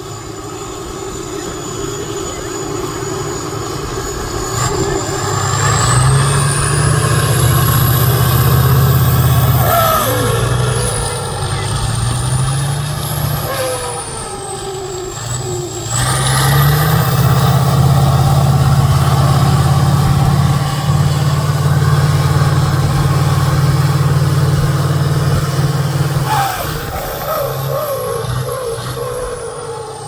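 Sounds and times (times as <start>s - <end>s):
high whine: 0.0s - 30.0s
truck engine pulling under load: 0.0s - 30.0s.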